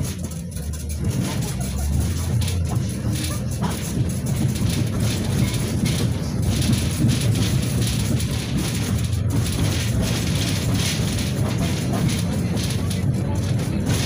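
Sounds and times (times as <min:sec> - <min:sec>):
tram wheels rumbling on rails: 0:00.0 - 0:14.0.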